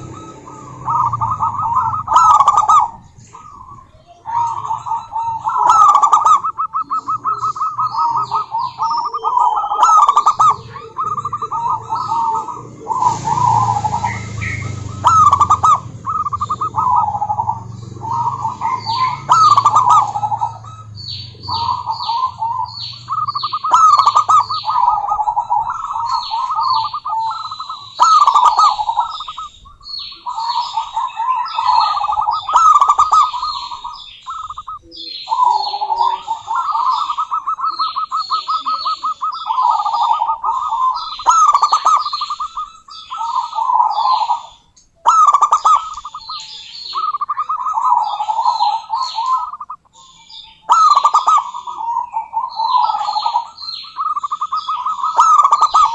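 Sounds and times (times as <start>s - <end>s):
dove trilled cooing: 0.0s - 55.9s
small birds chirping: 0.0s - 55.9s.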